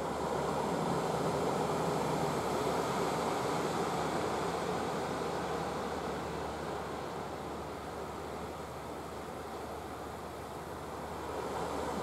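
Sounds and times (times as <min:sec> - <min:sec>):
sea water: 0:00.0 - 0:12.0
wind: 0:00.0 - 0:12.0.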